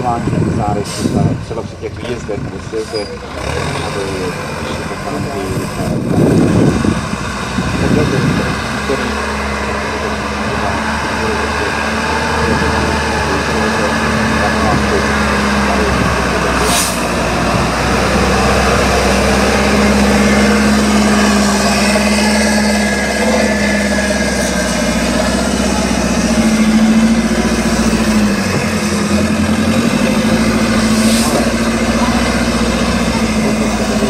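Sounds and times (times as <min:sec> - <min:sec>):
truck engine running under load: 0:00.0 - 0:34.0.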